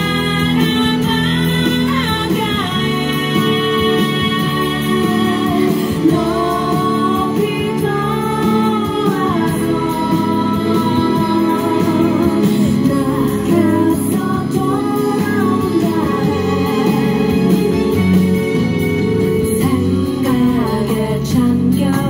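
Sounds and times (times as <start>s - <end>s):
woman singing through pa: 0.0s - 17.6s, 19.4s - 22.0s
instrumental accompaniment: 0.0s - 22.0s.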